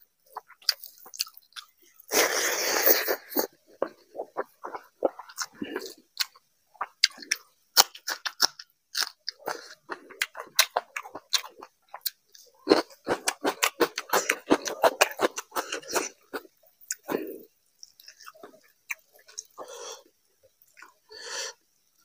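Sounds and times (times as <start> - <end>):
open-mouthed chewing: 0.3 - 21.0.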